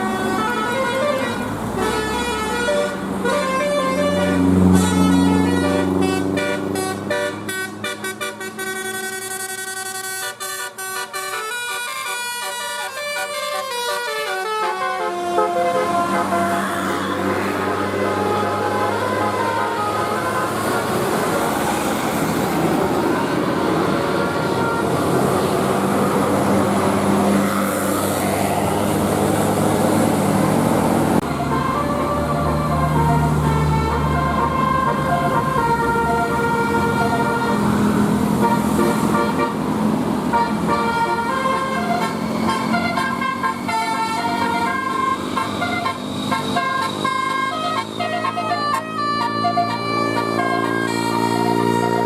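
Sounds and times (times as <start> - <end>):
bus horn playing a tune: 0.0 - 28.2, 31.2 - 52.0.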